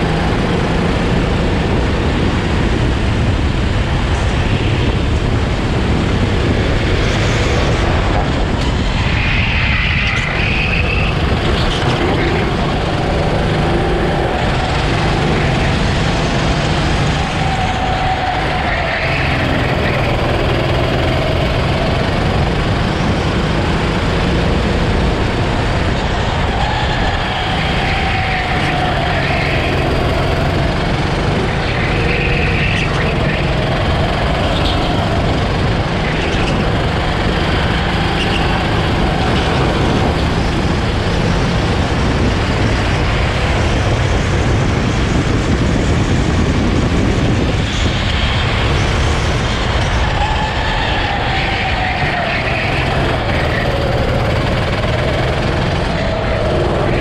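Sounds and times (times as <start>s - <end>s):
go-kart engine running hard: 0.0s - 57.0s
wind rushing: 0.0s - 57.0s.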